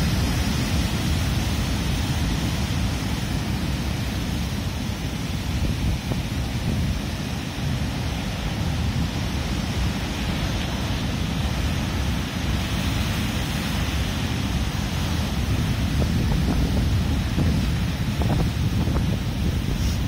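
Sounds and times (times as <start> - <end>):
surf breaking over rocks: 0.0 - 20.0.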